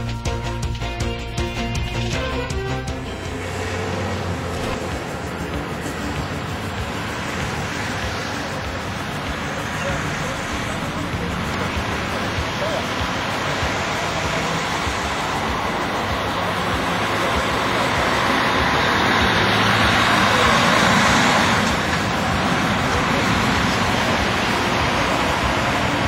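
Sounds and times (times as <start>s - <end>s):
motorway traffic rushing: 0.0s - 26.0s.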